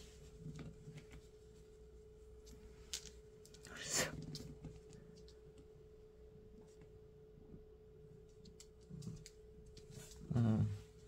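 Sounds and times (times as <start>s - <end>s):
faint electrical whine: 0.0s - 11.0s.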